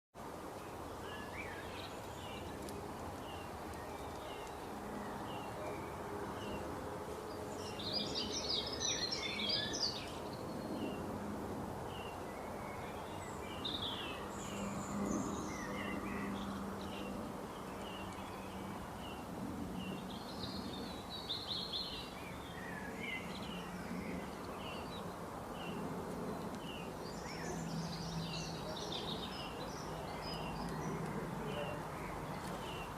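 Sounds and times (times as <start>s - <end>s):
birds chirping: 0.6s - 11.2s, 11.8s - 32.9s.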